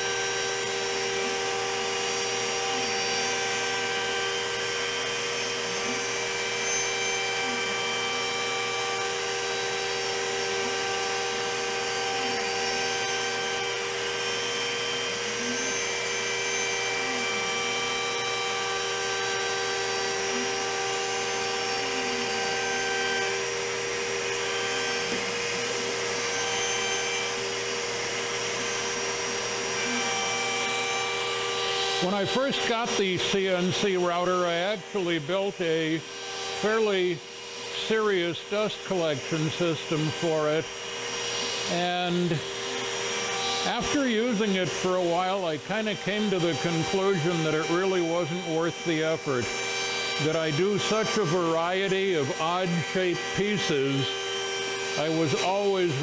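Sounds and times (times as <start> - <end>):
cnc router milling wood: 0.0 - 56.0.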